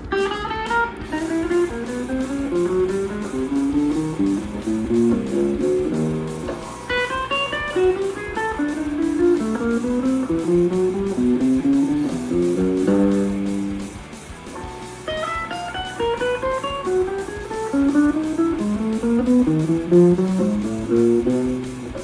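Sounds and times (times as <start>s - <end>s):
electric guitar melodic phrases: 0.0s - 22.0s.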